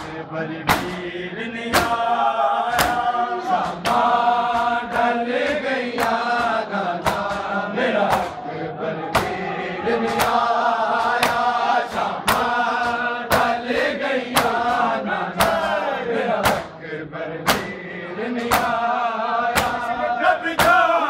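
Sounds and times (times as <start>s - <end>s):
male voices chanting: 0.0s - 21.0s
men slapping chests: 0.0s - 21.0s.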